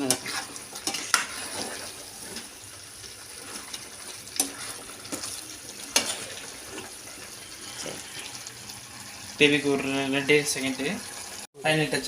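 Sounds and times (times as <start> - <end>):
gravy sizzling in a pan: 0.0 - 12.0.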